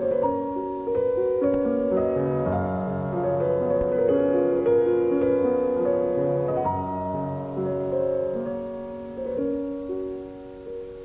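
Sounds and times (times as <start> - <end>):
solo piano: 0.0 - 11.0.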